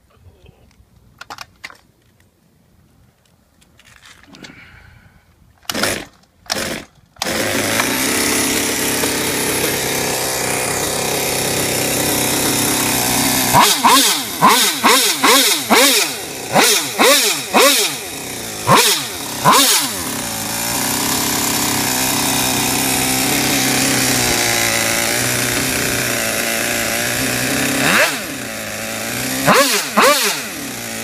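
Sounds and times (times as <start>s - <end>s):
two-stroke engine revving: 5.7s - 31.0s.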